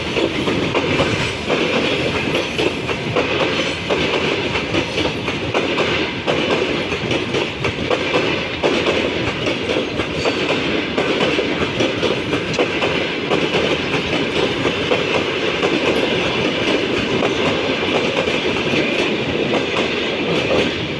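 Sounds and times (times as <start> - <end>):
train rumble: 0.0 - 20.9
train wheels clattering over rail joints: 0.0 - 20.9.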